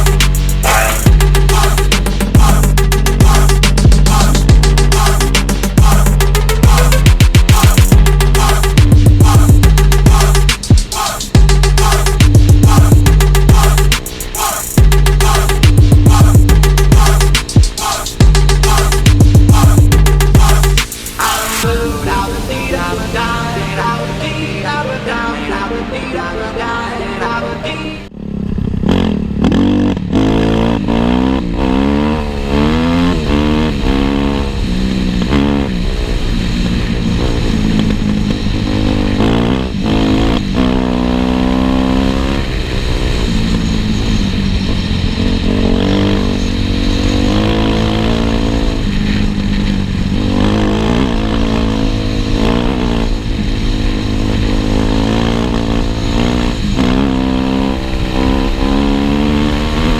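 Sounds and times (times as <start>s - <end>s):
dirt bike engine revving: 0.0s - 22.3s, 28.1s - 59.9s.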